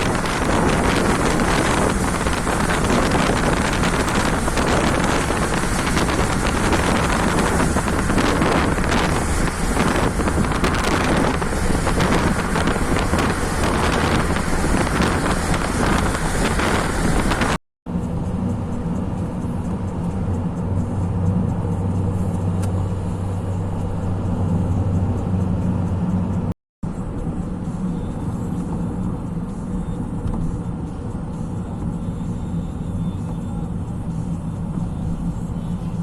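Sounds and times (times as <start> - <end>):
car engine hum: 0.0 - 36.0
road noise: 0.0 - 36.0.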